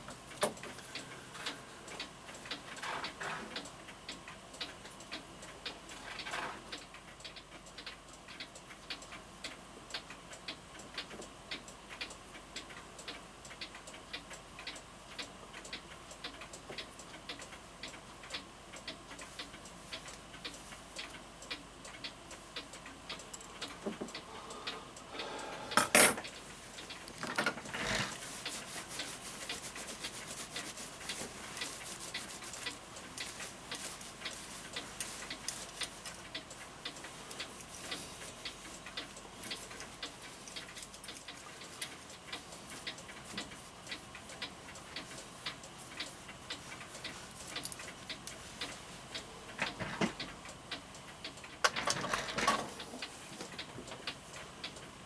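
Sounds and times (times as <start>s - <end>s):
mantel clock ticking: 0.0s - 55.0s.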